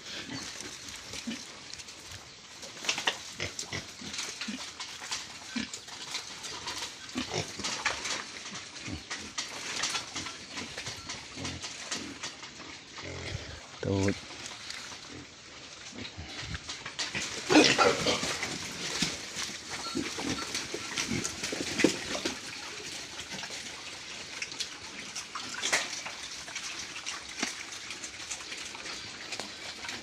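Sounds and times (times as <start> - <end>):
pigs grunting: 0.0 - 30.0.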